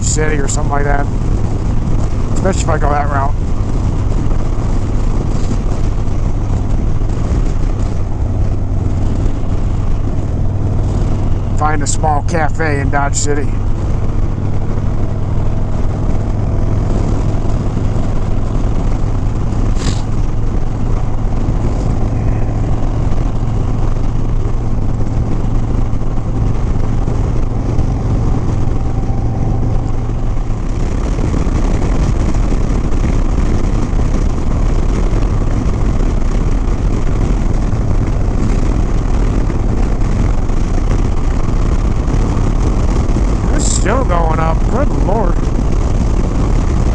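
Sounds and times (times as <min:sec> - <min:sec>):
motorcycle engine running: 0:00.0 - 0:46.9
wind rush on microphone: 0:00.0 - 0:46.9.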